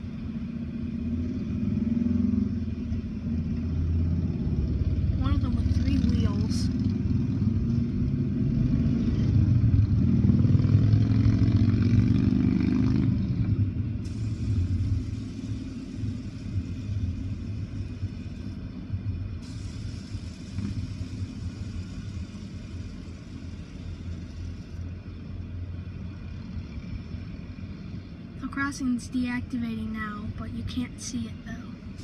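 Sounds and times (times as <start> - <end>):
idling traffic rumble: 0.0 - 32.0
vehicle engine rumble: 0.0 - 32.0.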